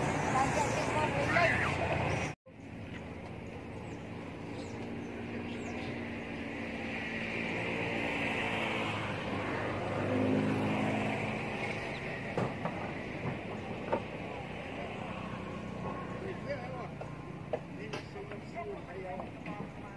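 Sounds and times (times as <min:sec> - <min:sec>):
vehicle engine humming: 0:00.0 - 0:19.9.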